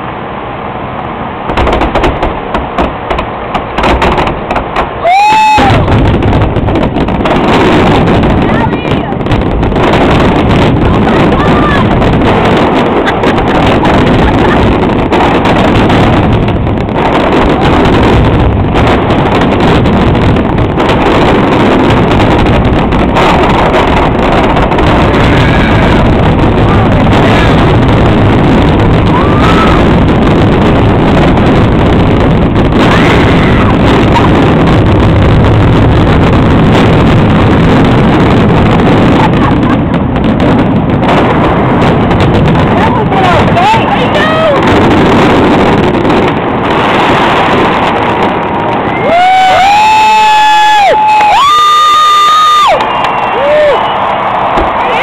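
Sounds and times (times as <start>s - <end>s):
fireworks barrage rumble: 0.0s - 55.0s.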